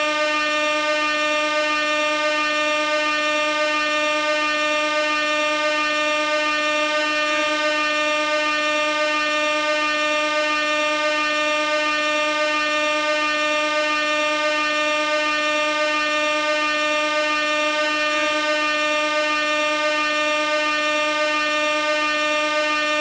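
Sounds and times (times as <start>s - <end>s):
gas air horn blaring: 0.0s - 23.0s.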